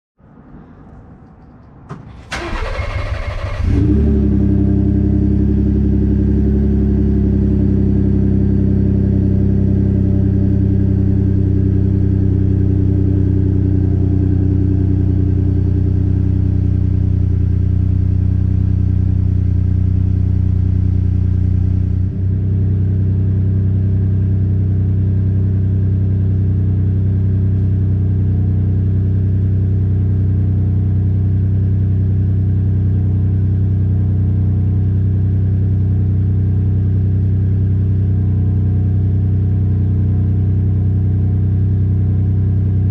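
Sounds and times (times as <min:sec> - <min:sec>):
car engine idling: 0:00.6 - 0:42.9.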